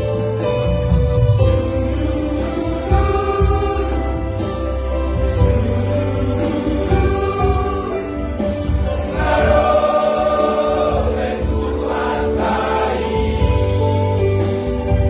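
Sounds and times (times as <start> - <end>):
instrumental backing with low beat: 0.0 - 15.0
gospel vocal harmony singing: 1.4 - 15.0.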